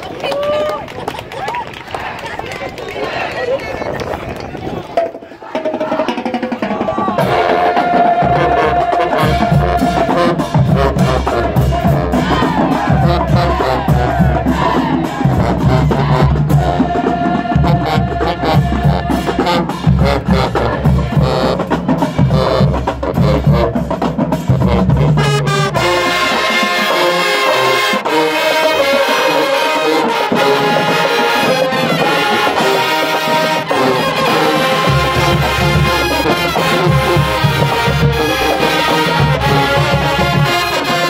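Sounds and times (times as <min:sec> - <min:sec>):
marching band brass: 0:01.7 - 0:41.0
drums: 0:03.6 - 0:41.0.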